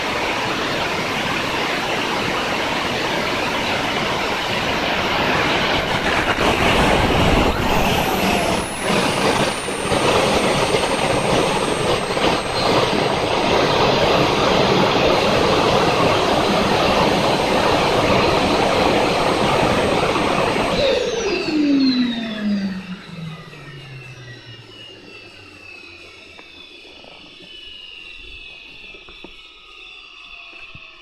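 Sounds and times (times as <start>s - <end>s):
gas turbine engine roaring: 0.0s - 31.0s
turbine spooling down whine: 0.0s - 31.0s.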